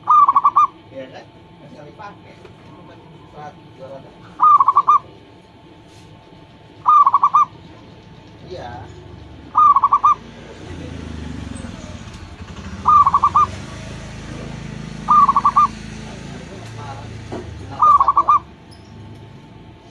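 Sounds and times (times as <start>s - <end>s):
dove cooing: 0.0s - 0.9s, 2.4s - 18.7s.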